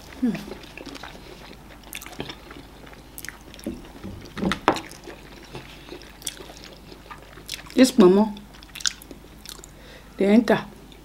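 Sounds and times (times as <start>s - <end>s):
mouths chewing: 0.0s - 9.8s.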